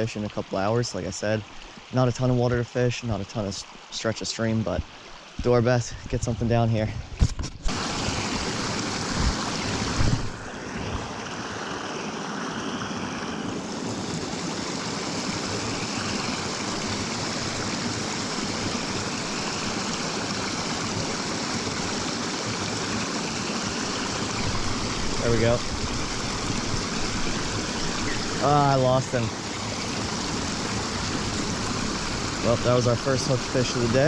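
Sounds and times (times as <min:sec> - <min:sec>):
stream water rushing: 0:00.0 - 0:34.0.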